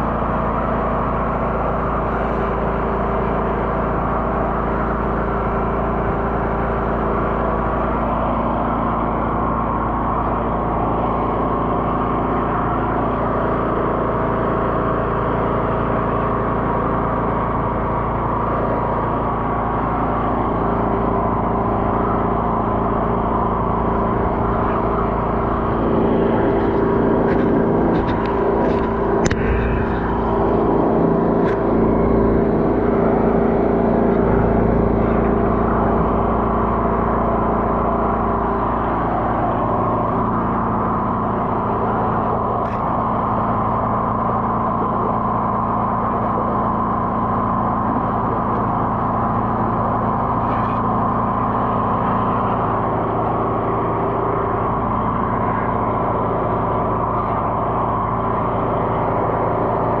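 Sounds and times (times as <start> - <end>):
engine running steadily: 0.0 - 60.0.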